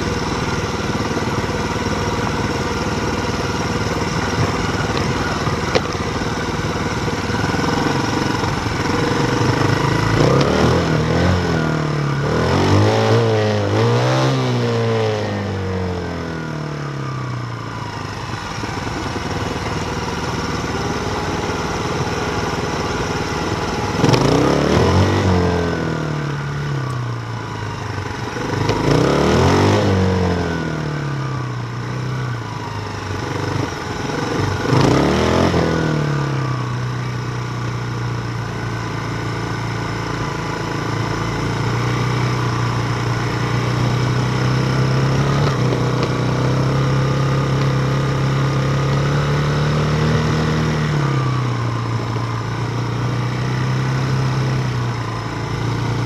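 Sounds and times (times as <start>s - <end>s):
vehicle engine: 0.0s - 56.0s
vehicles passing by: 0.0s - 56.0s.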